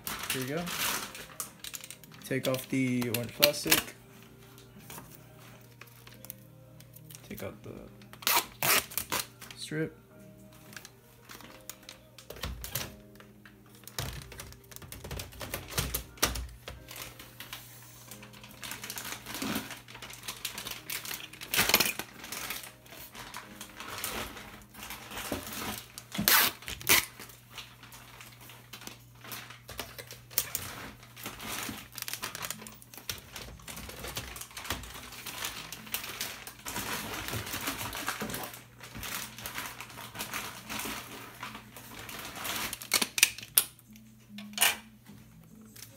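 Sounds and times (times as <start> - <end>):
packing plastic crinkling: 0.0 - 45.9.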